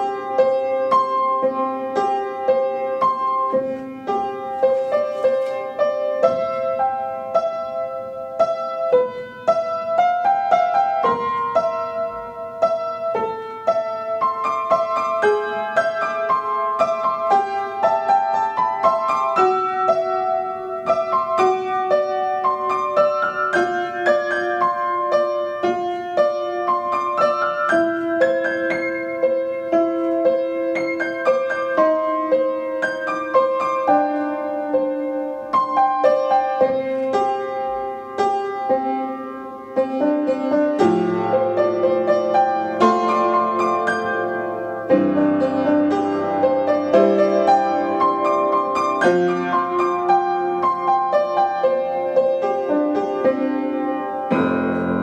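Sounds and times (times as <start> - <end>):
upright piano playing: 0.0 - 55.0.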